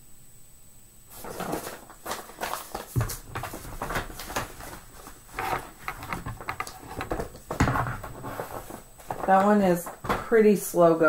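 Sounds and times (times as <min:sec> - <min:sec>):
paper rustling: 0:01.1 - 0:10.6.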